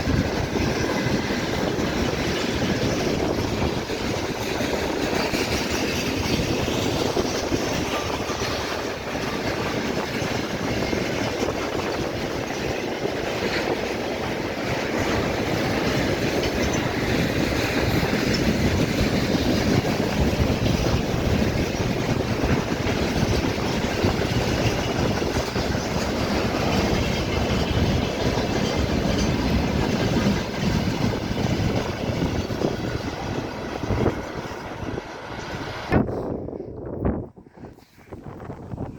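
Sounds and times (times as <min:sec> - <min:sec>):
train passing on rails: 0:00.0 - 0:38.9.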